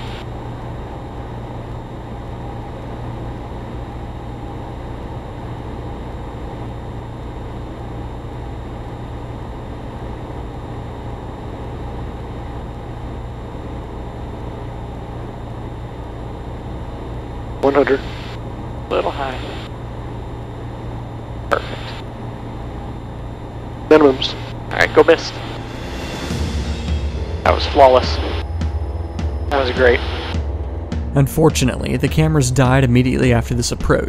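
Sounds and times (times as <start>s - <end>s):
propeller plane engine droning: 0.0s - 34.0s.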